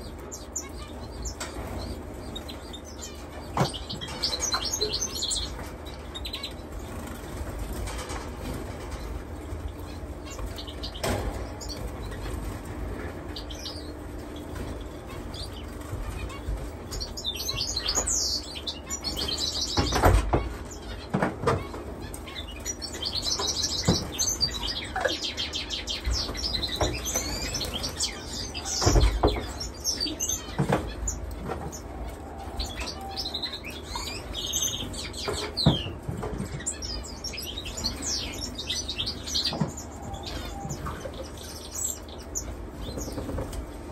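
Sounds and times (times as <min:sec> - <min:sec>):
finches chirping and trilling: 0:00.0 - 0:43.9.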